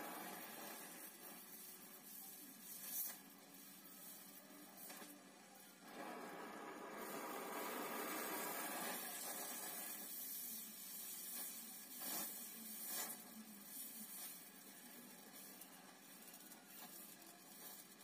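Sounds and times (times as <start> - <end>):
arc welding hiss: 0.0 - 5.2, 5.9 - 18.0.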